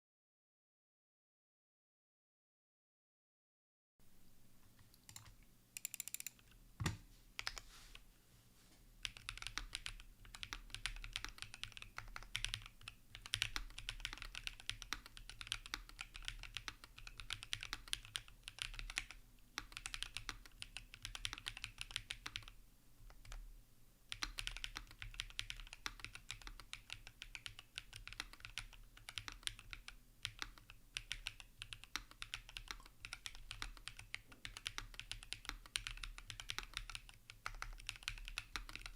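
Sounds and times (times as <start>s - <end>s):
mechanical keyboard typing: 5.0s - 7.6s, 9.0s - 23.4s, 24.1s - 38.9s.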